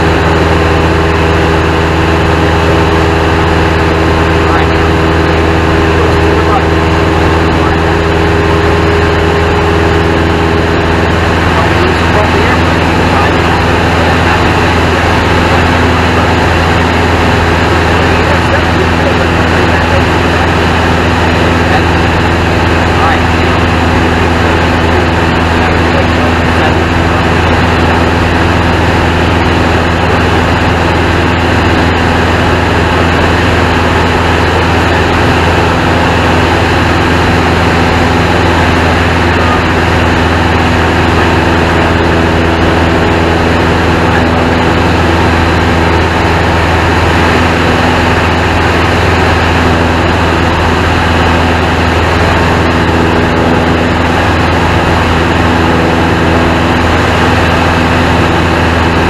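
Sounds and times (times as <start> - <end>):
propeller airplane engine humming: 0.0 - 59.0.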